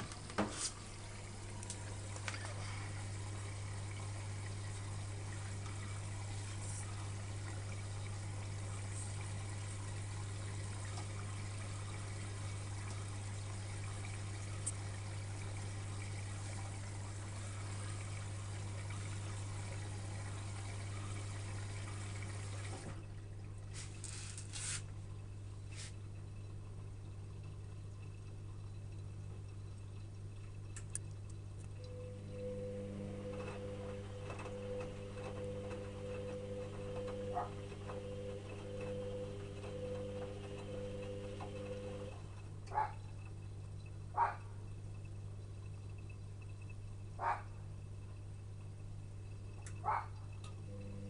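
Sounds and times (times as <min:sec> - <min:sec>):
washing machine low hum: 0:00.0 - 0:51.0
water rushing through washing machine: 0:00.0 - 0:51.0.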